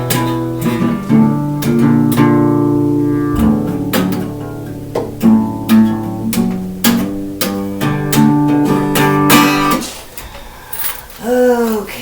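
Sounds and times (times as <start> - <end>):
acoustic guitar strumming: 0.0 - 10.7.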